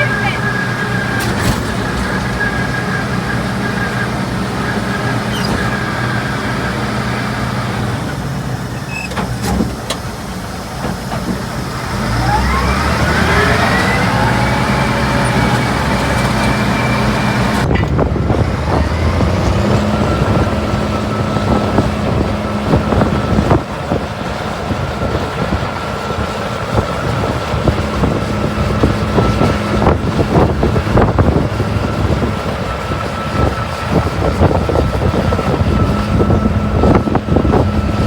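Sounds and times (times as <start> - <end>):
bulldozer diesel engine revving: 0.0 - 38.0.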